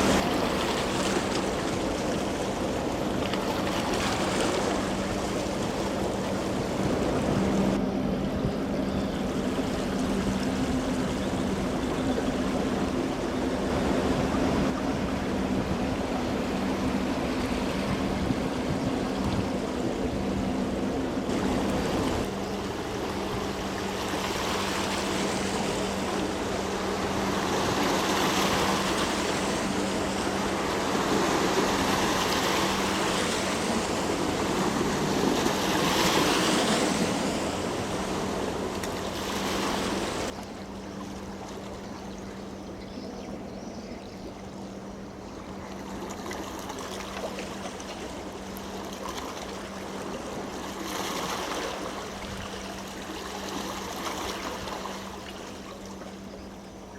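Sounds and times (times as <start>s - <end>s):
rushing water: 0.0s - 8.2s, 9.2s - 42.6s, 44.2s - 56.9s
steady low hum: 0.0s - 56.9s.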